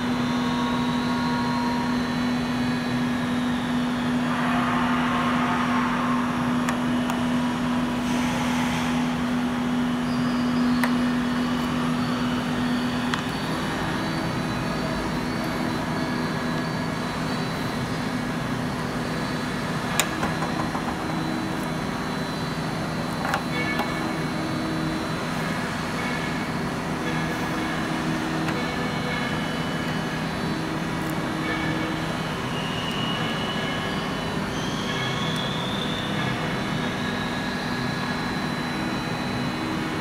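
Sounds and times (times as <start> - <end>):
mechanical hum: 0.0 - 40.0.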